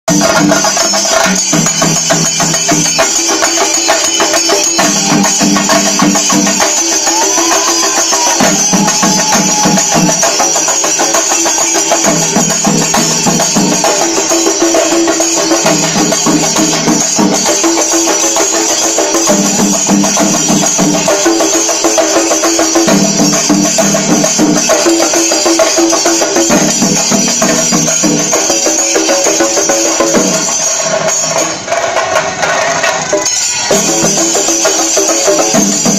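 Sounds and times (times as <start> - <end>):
fast drum rolls: 0.1 - 35.9
hand cymbals clashing: 0.1 - 35.9.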